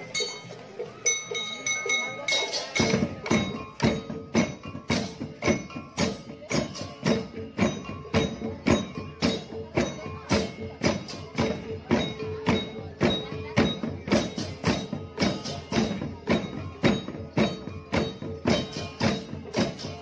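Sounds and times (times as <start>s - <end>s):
percussion ensemble playing a beat: 0.0s - 20.0s
ringing metallic strikes: 0.0s - 20.0s.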